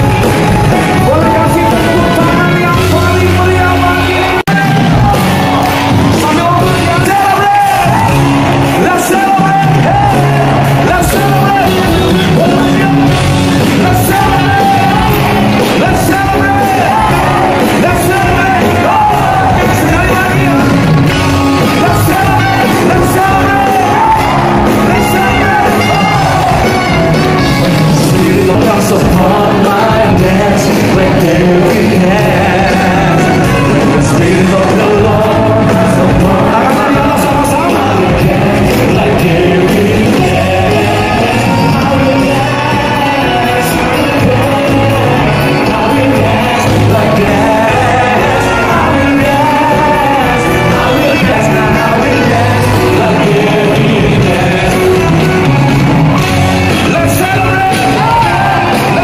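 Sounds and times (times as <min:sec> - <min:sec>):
congregation singing: 0:00.0 - 0:59.0
crowd shouts: 0:00.0 - 0:59.0
live worship music: 0:00.0 - 0:59.0.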